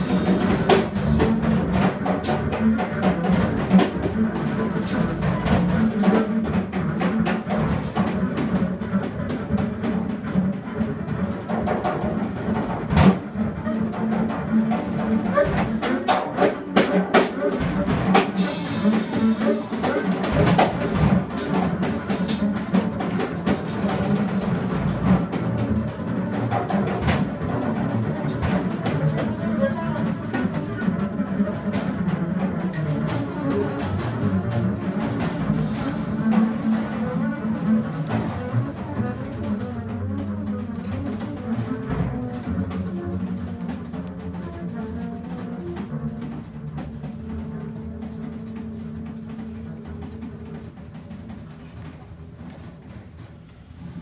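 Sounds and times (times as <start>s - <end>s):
jazz drum kit with cymbals: 0.0s - 54.0s
walking double bass: 0.0s - 54.0s.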